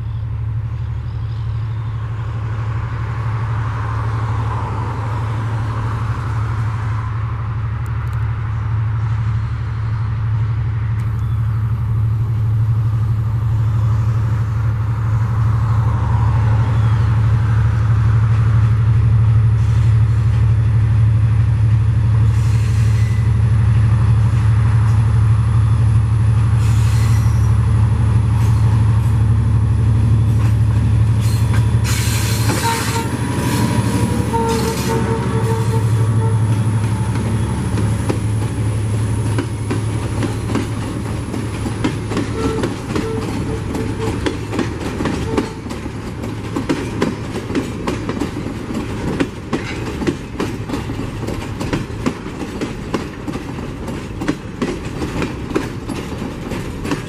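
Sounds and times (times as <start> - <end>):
diesel locomotive engine drone: 0.0 - 57.0
train wheels on rails: 0.3 - 57.0.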